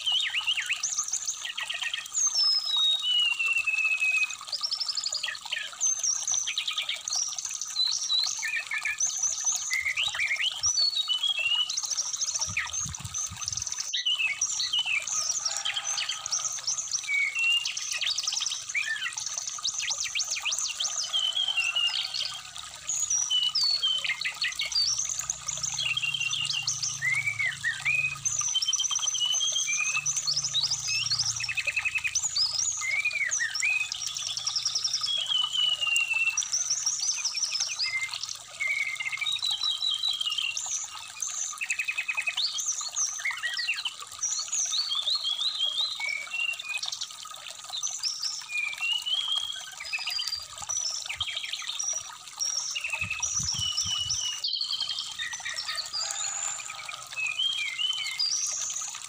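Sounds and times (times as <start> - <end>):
bird singing: 0.0 - 46.9, 48.1 - 59.0
trickling stream: 0.0 - 59.0.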